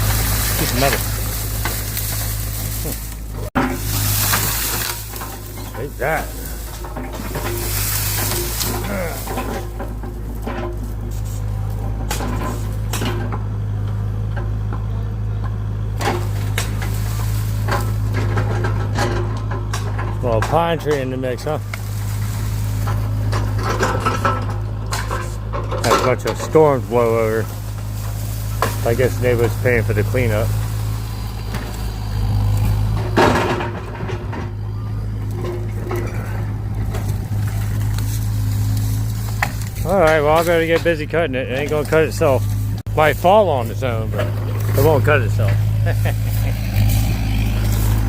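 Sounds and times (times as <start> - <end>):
sharp knocks and cracks: 0.0 - 11.2, 11.8 - 41.0
excavator engine droning: 0.0 - 48.0.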